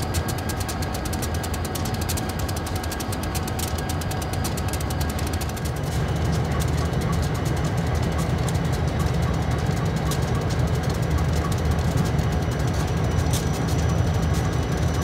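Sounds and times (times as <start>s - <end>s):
locomotive low rumble: 0.0s - 15.0s.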